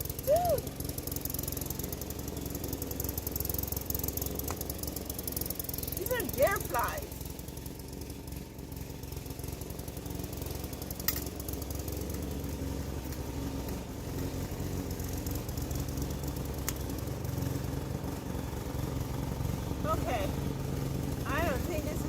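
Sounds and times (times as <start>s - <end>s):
garden machine motor humming: 0.0s - 22.0s.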